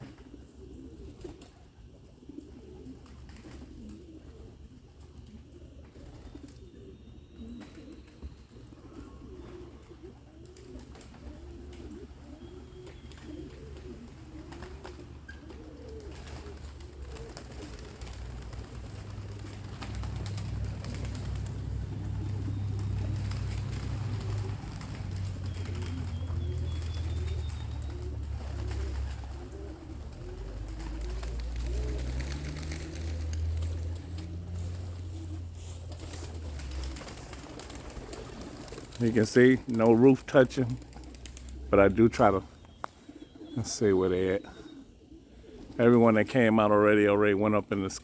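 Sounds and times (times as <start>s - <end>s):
pigeons cooing: 0.0s - 48.0s.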